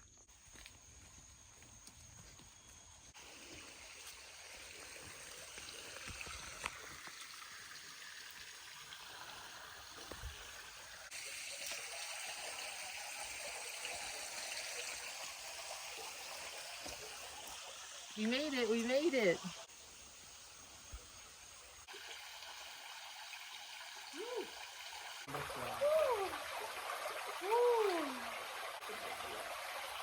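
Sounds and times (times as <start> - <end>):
rushing water hiss: 3.1 - 30.0.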